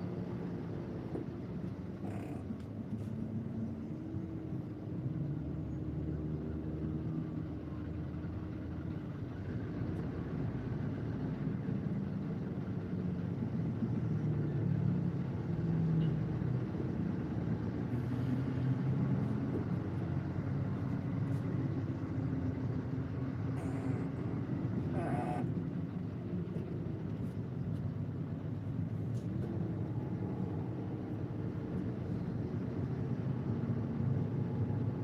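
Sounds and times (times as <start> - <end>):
car engines humming in traffic: 0.0 - 35.0.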